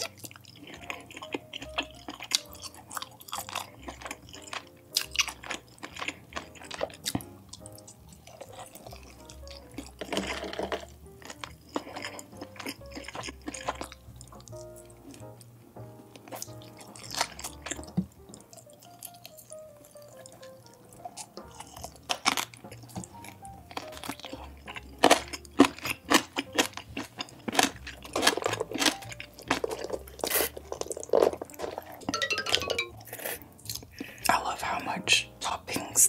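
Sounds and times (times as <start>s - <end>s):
chewing and crunching food: 0.0s - 36.0s
quiet background music: 0.0s - 36.0s.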